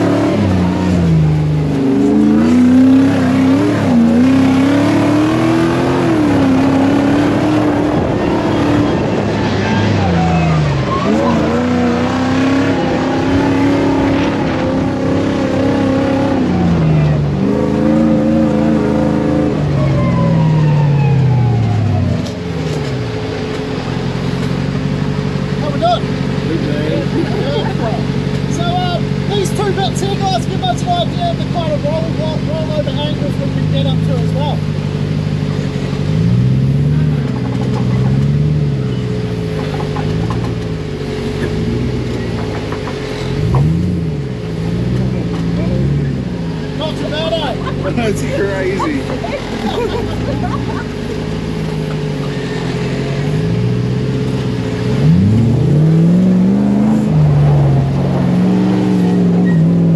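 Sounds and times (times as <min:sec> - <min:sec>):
engine accelerating hard: 0:00.0 - 0:59.9.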